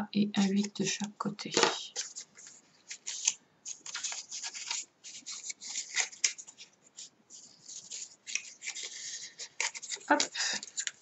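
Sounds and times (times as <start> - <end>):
cardstock rustling and scraping: 1.5 - 11.0.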